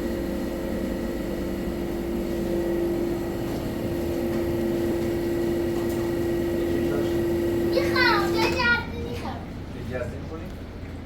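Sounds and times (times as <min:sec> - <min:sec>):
machine hum with steady tone: 0:00.0 - 0:09.0.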